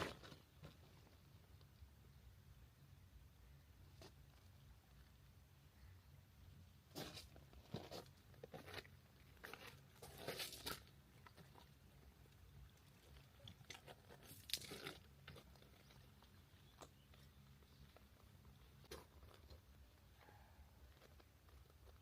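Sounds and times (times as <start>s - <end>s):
faint crunches and scrapes: 0.0s - 1.8s, 3.8s - 5.2s, 6.6s - 22.0s.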